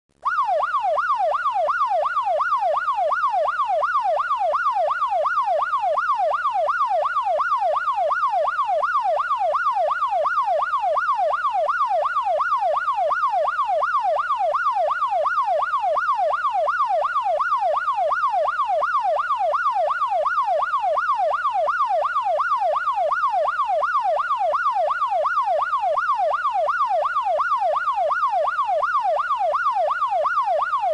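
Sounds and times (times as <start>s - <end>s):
police siren yelping: 0.2s - 30.9s.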